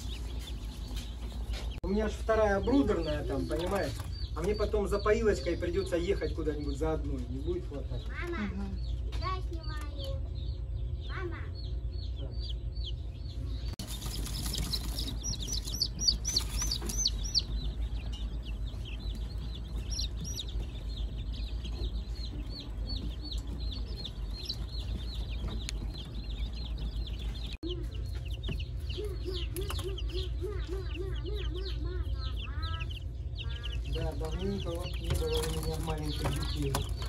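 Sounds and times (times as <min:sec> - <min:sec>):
chicks peeping: 0:00.0 - 0:37.0
steady low hum: 0:00.0 - 0:37.0.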